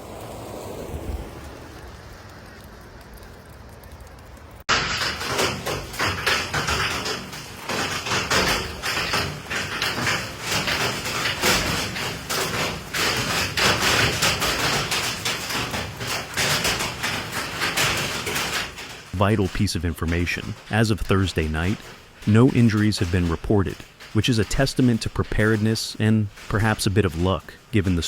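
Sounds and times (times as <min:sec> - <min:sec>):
hail pelting a hard surface: 0:00.0 - 0:28.0.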